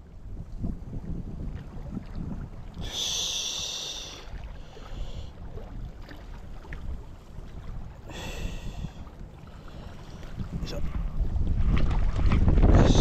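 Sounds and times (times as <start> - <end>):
wind buffeting microphone: 0.0 - 3.1, 4.2 - 13.0.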